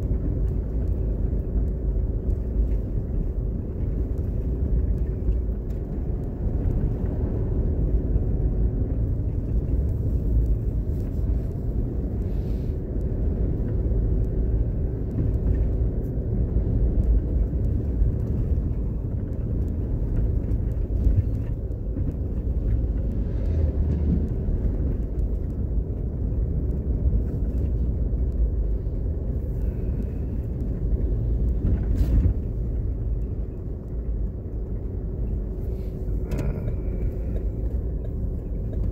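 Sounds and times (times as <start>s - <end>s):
car engine rumble: 0.0s - 38.9s
tyres on paved road: 0.0s - 38.9s.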